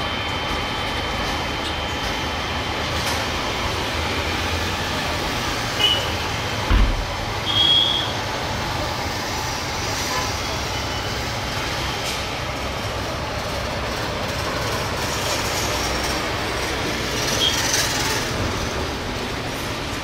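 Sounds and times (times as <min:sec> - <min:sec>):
jet engines at taxi power: 0:00.0 - 0:20.0.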